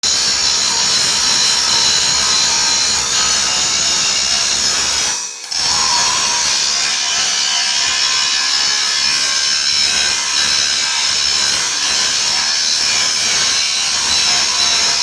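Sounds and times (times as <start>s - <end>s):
power tool running: 0.0s - 15.0s.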